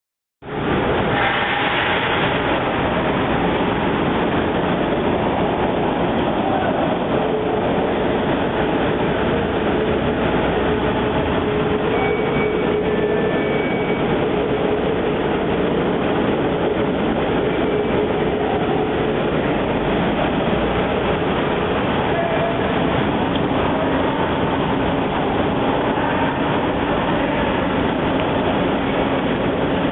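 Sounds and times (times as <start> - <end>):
faint constant hum: 0.4 - 29.9.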